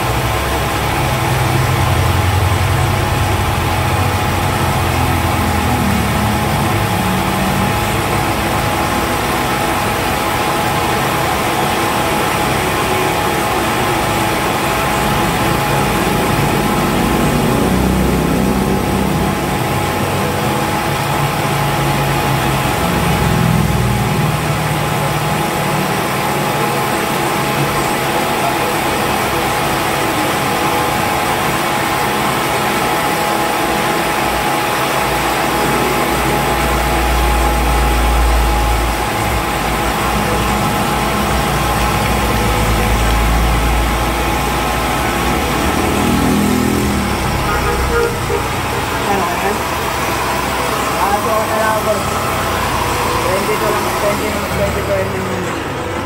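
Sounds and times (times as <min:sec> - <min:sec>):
milling machine whine: 0:00.0 - 0:56.0.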